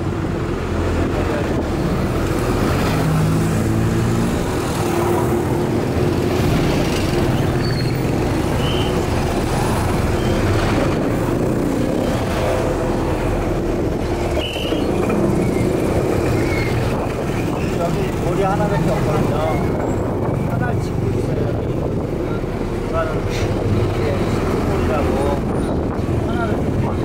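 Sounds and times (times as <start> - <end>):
bus engine and traffic noise: 0.0 - 27.0
motorcycle engines nearby: 0.0 - 27.0.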